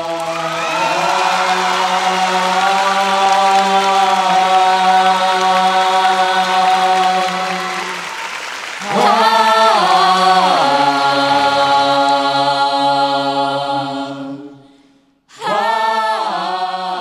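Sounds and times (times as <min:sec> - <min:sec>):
group singing a cappella: 0:00.0 - 0:17.0.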